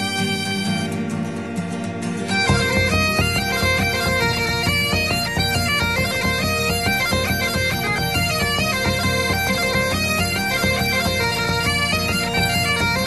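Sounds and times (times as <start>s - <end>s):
bagpipe music: 0.0s - 13.0s.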